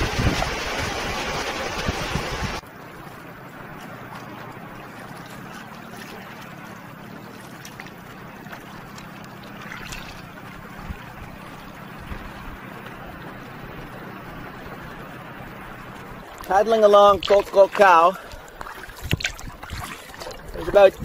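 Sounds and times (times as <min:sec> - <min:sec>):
small waves lapping against kayak: 0:00.0 - 0:21.0.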